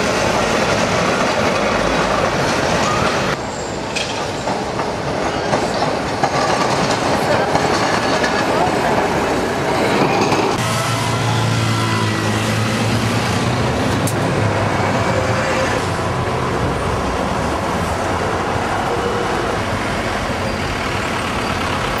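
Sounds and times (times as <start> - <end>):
traffic passing: 0.0 - 22.0.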